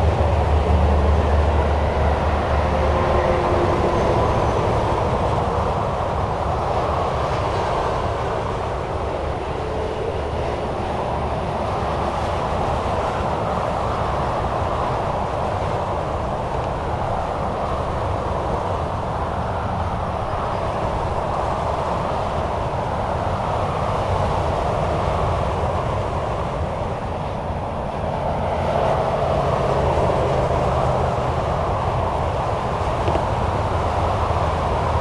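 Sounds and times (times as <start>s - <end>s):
heavy vehicle engine drone: 0.0s - 35.0s
highway traffic tyre noise: 0.0s - 35.0s.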